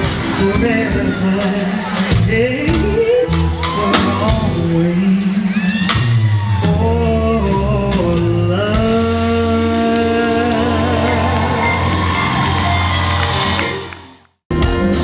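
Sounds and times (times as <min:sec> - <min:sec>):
person singing soul music: 0:00.0 - 0:13.5
bass and drums: 0:00.0 - 0:15.0.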